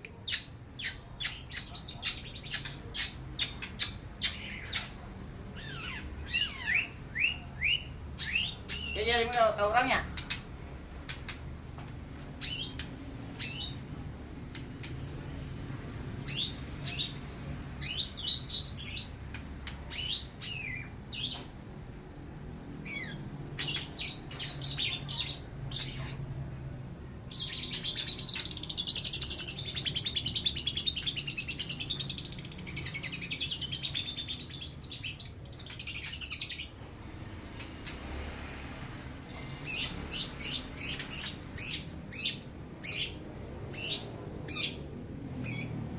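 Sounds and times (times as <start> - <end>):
bird chirping and chattering: 0.2 - 11.5, 12.4 - 13.8, 16.2 - 21.5, 22.8 - 26.3, 27.3 - 36.8, 39.4 - 45.8.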